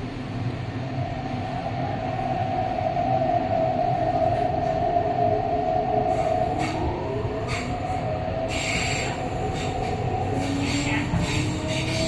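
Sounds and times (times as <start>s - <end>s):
constant train whine: 0.0s - 12.0s
train wheels rumbling on track: 0.0s - 12.0s.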